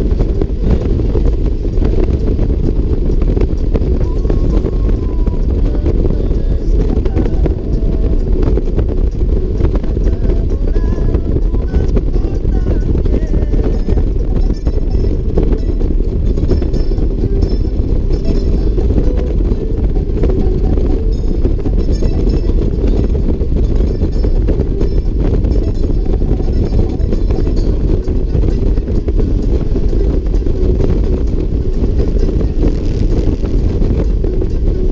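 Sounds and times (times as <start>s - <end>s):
motorcycle engine at speed: 0.0s - 34.9s
wind rushing over microphone: 0.0s - 34.9s.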